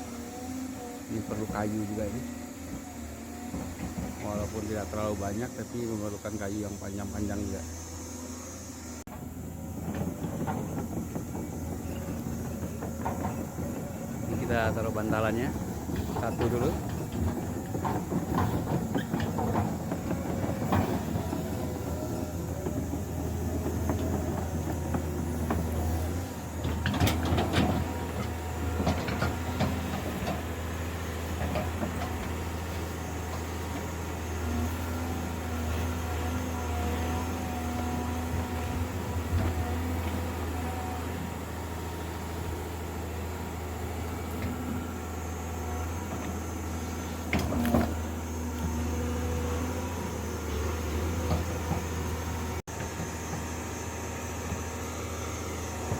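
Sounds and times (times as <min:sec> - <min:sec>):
heavy machine engine droning: 0:00.0 - 0:55.9.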